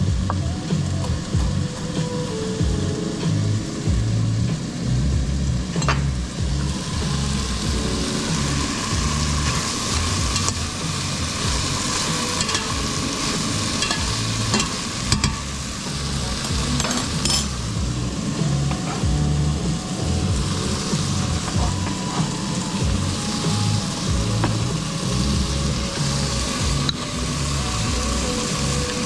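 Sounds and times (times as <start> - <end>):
food sizzling in a frying pan: 5.3 - 29.0.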